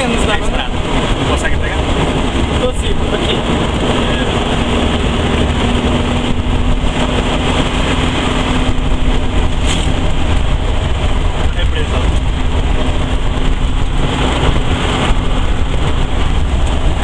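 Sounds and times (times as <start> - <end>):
dune buggy engine rumble: 0.0 - 17.0.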